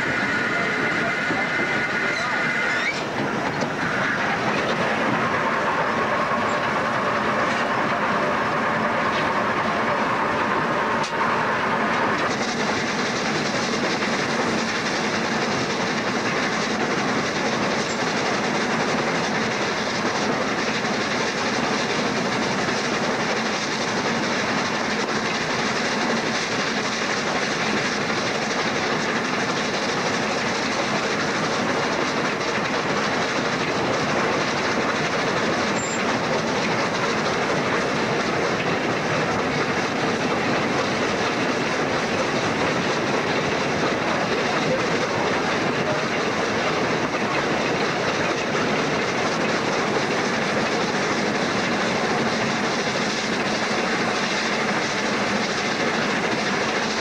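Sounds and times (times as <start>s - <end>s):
rattling locomotive cab: 0.0s - 57.0s
train wheels on rails: 0.0s - 57.0s.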